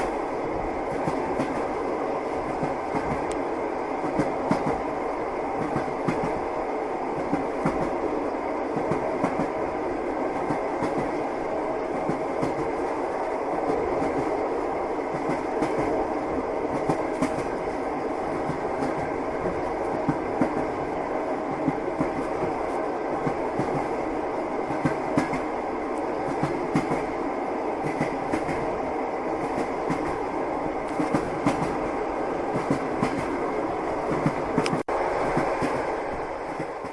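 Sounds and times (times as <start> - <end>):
train wheels rumbling: 0.0 - 36.9.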